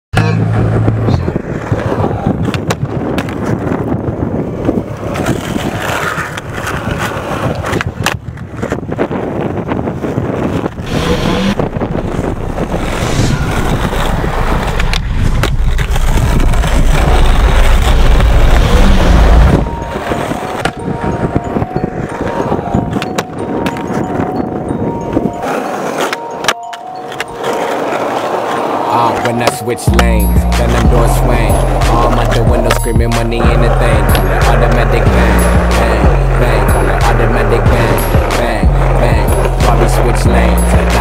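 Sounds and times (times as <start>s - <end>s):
skateboard wheels rolling on asphalt: 0.4s - 41.0s
skateboard clacks: 1.4s - 10.9s, 14.6s - 24.3s, 25.0s - 41.0s.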